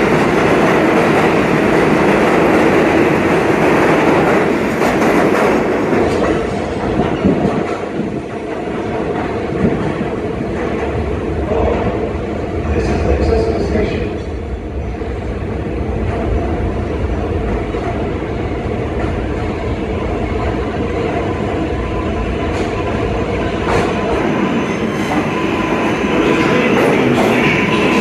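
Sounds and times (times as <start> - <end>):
subway train rumbling: 0.0 - 28.0.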